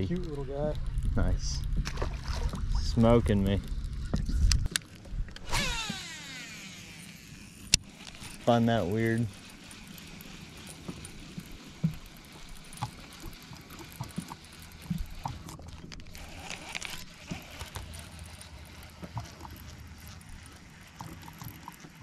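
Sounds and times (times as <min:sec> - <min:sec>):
low hum: 0:00.0 - 0:22.0
fishing reel clicks and knocks: 0:02.5 - 0:22.0.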